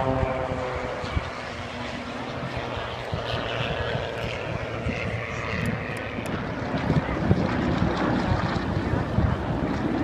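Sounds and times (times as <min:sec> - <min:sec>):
propeller airplane engines droning: 0:00.0 - 0:10.0.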